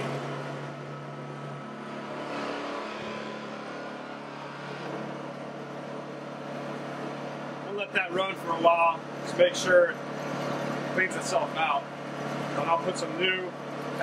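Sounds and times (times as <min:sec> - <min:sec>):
generator engine running: 0:00.0 - 0:02.2, 0:03.4 - 0:14.0.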